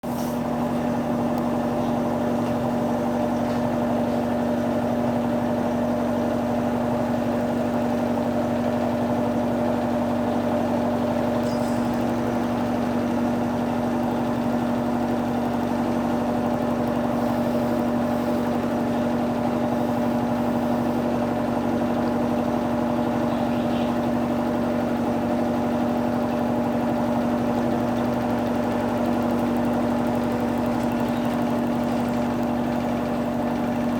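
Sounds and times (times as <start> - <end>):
washing machine humming: 0.0 - 33.9.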